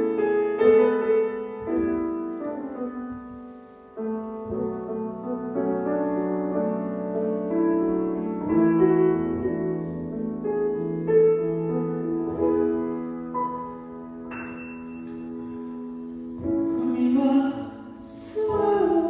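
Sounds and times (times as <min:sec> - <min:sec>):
grand piano chords: 0:00.0 - 0:19.0.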